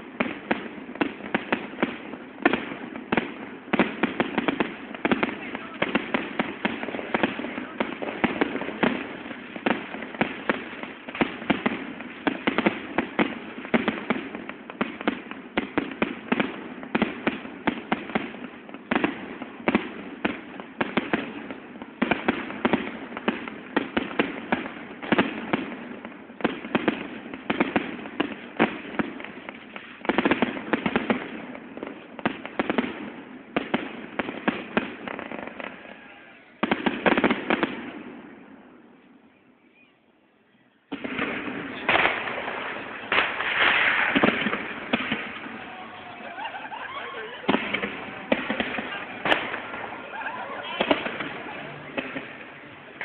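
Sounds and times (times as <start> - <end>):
fireworks and firecrackers banging: 0.0 - 53.0.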